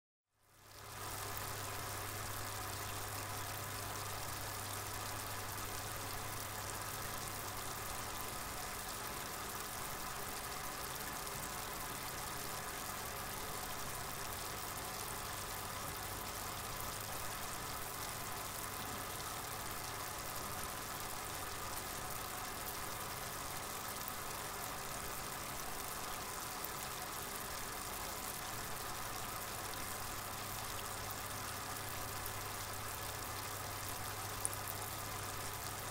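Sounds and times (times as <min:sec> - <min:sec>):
constant hiss: 0:00.4 - 0:35.9.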